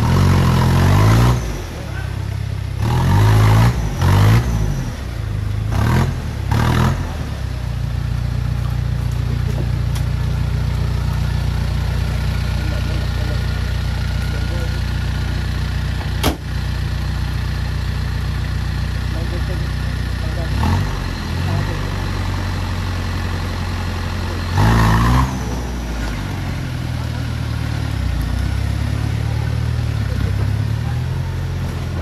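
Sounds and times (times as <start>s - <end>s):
engine revving and idling: 0.0s - 32.0s.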